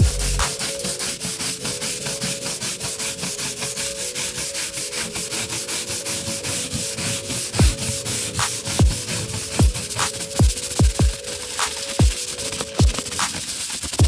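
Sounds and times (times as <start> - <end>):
brush scrubbing metal floor: 0.0 - 14.0.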